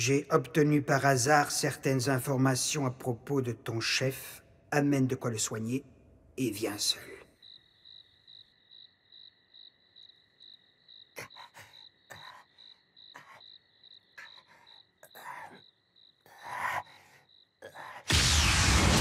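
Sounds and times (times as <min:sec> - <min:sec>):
crickets chirping: 0:00.0 - 0:18.8.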